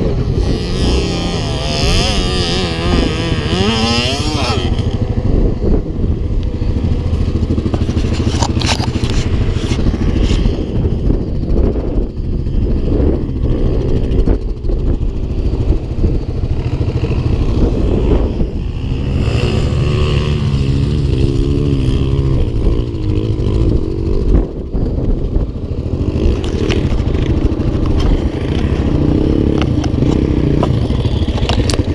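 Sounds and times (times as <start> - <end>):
quad bike engine idling: 0.0 - 31.9
quad bikes revving: 0.0 - 31.9.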